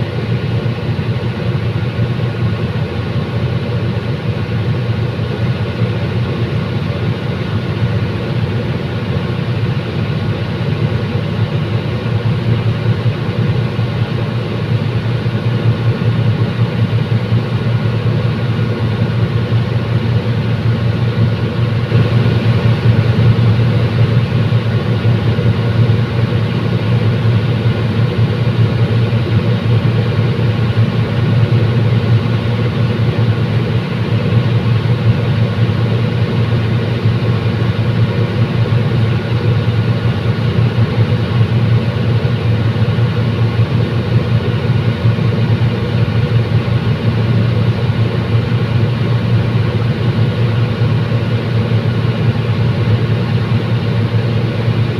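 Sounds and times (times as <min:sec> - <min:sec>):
diesel train engine drone: 0:00.0 - 0:54.9.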